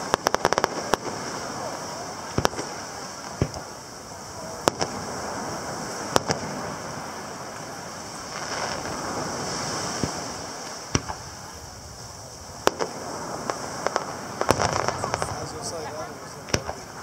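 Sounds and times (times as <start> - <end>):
distant firework bangs: 0.0 - 17.0
ocean surf: 0.0 - 17.0
wind: 0.0 - 17.0.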